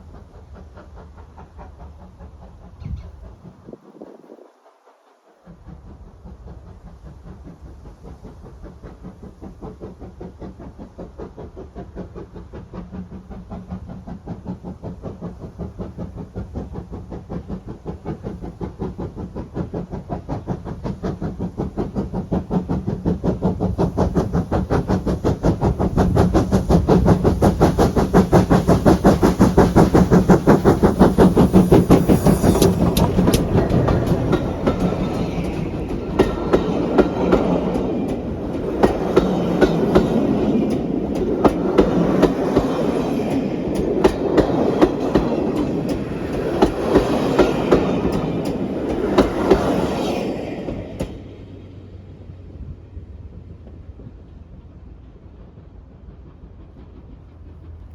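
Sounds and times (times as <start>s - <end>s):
train running by: 0.0s - 57.9s.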